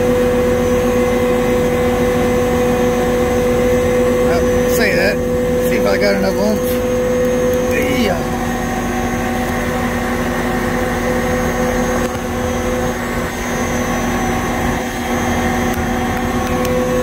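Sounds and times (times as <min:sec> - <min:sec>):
high held machine tone: 0:00.0 - 0:17.0
machine humming: 0:00.0 - 0:17.0.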